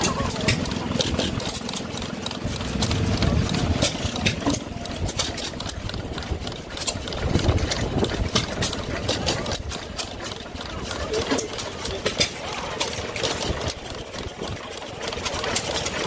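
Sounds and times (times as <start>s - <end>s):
gas engine clicking and pulsing: 0.0s - 16.0s.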